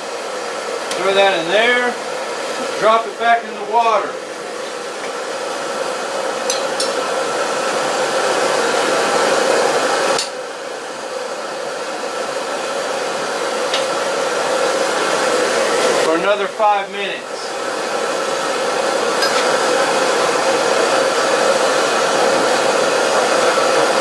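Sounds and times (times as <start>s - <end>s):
boiling water hissing: 0.0s - 24.0s.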